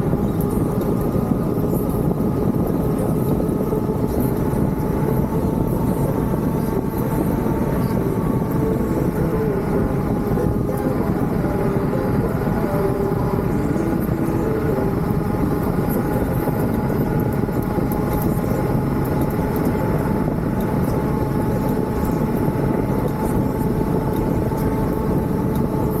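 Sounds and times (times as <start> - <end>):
strong wind roaring: 0.0 - 26.0.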